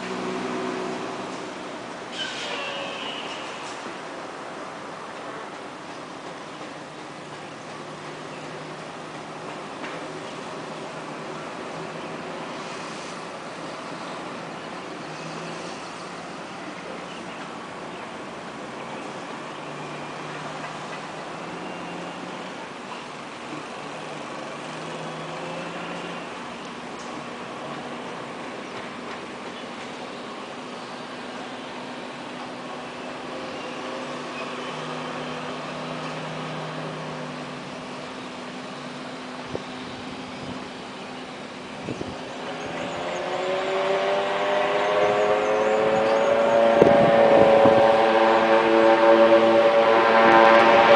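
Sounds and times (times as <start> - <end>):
distant turboprop engines: 0.0 - 50.9.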